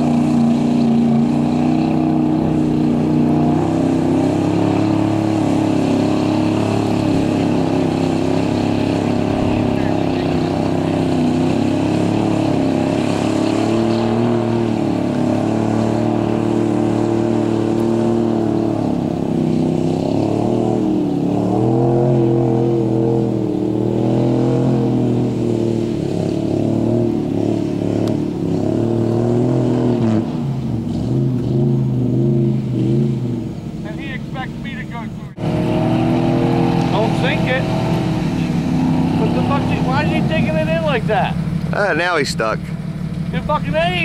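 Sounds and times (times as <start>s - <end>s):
boat engine revving under load: 0.0s - 44.0s.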